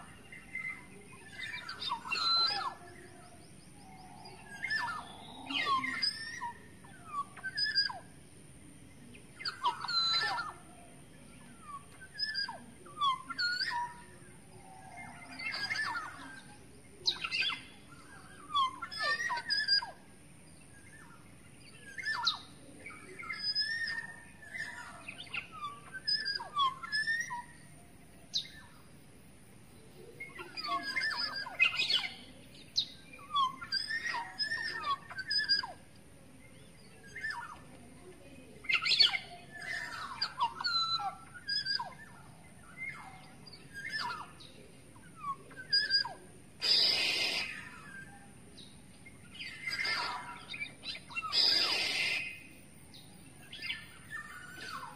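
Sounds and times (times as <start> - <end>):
bird whistling calls: 0.3 - 2.9, 4.0 - 8.2, 9.4 - 10.7, 11.5 - 20.1, 21.0 - 27.7, 30.0 - 35.9, 38.6 - 48.3, 49.3 - 54.9.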